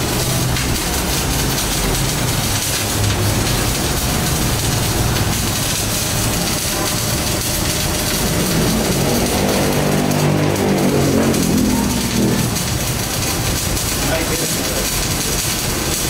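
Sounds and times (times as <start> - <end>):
welding arc crackling hiss: 0.0 - 16.0.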